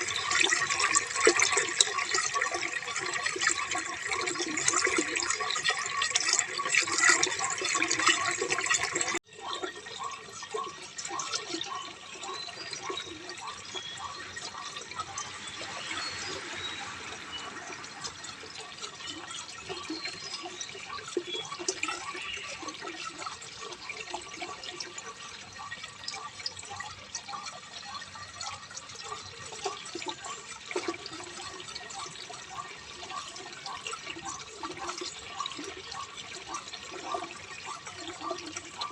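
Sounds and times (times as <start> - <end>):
running water with drips and splashes: 0.0 - 38.9.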